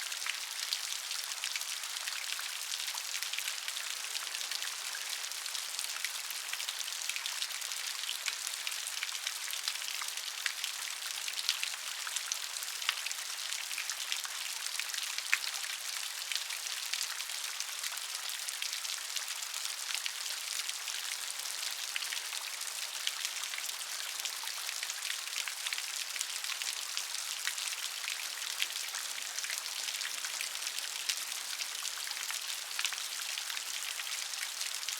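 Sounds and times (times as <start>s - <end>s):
gentle rain patter: 0.0s - 34.9s.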